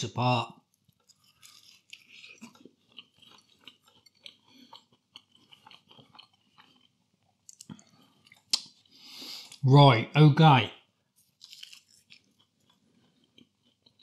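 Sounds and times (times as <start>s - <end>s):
person chewing pastry: 0.5s - 9.6s, 11.0s - 14.0s.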